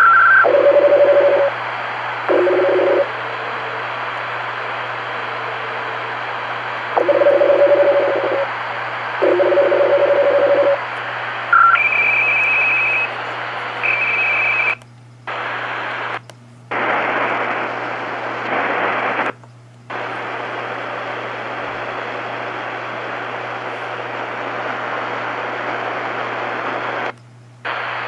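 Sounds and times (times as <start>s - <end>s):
buzzing radio signal: 0.0s - 28.0s
radio static hiss: 0.0s - 28.0s.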